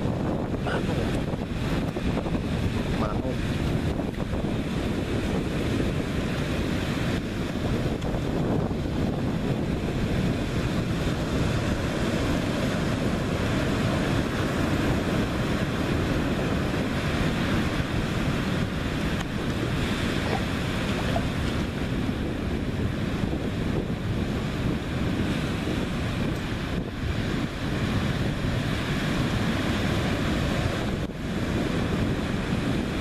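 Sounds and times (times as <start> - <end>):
ocean surf breaking on rocks: 0.0 - 33.0
wind buffeting microphone: 0.0 - 33.0.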